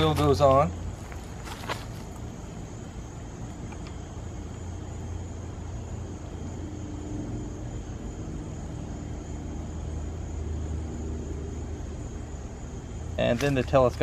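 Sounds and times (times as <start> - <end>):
distant engine rumble: 0.0 - 14.0
faint hum: 0.0 - 14.0.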